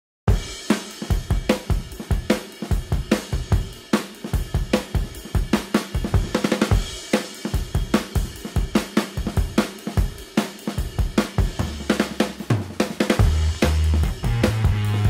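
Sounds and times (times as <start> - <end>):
drum-kit beat: 0.3 - 15.0.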